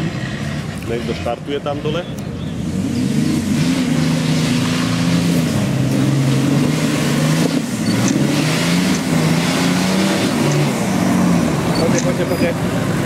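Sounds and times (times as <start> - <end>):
off-road vehicle engine under load: 0.0 - 13.0.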